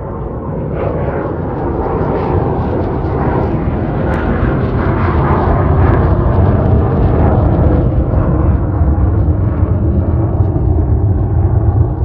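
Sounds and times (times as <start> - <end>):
low rumbling jet roar: 0.0 - 12.0.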